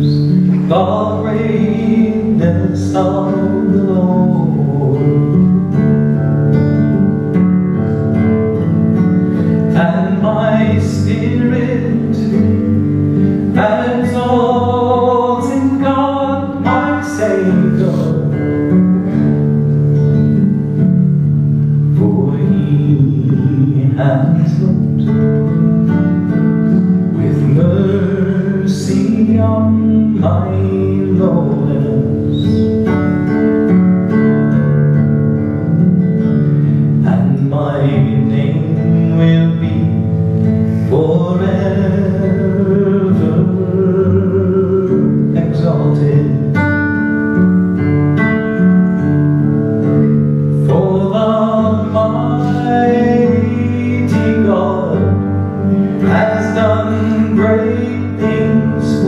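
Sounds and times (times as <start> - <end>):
man singing: 0.0 - 19.5, 20.2 - 34.2, 36.9 - 47.4, 49.8 - 59.0
classical guitar playing: 0.0 - 59.0.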